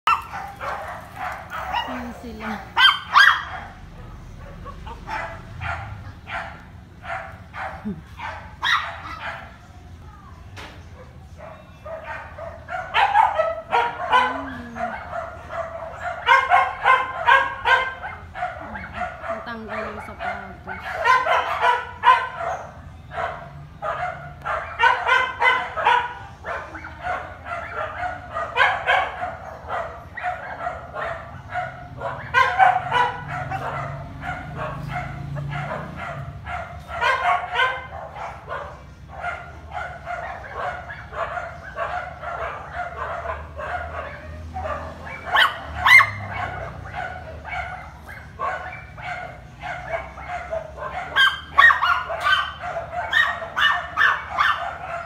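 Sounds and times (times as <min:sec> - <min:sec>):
dogs barking and yapping: 0:00.0 - 0:55.0.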